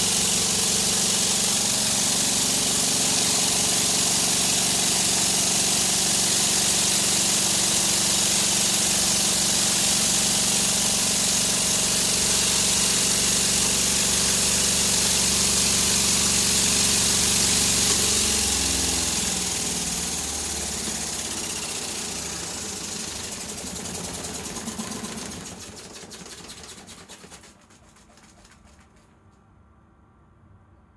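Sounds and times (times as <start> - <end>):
washing machine motor hum: 0.0 - 29.3.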